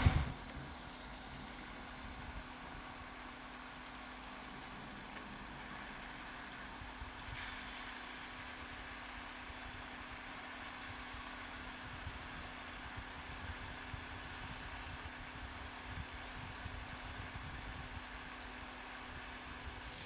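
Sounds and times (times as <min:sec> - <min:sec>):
chicken sizzling in oil: 0:00.0 - 0:20.0
electric cooktop hum: 0:00.0 - 0:20.0.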